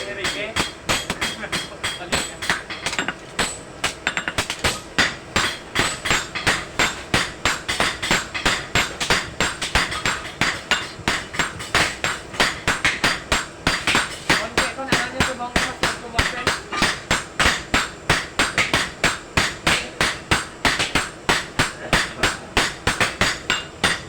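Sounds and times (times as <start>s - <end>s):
hammer striking anvil: 0.0s - 24.0s.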